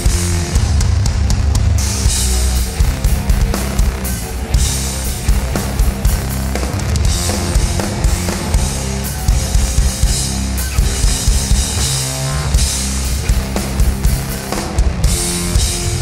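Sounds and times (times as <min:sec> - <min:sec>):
drum kit pounding: 0:00.0 - 0:16.0
low bass notes: 0:00.0 - 0:16.0.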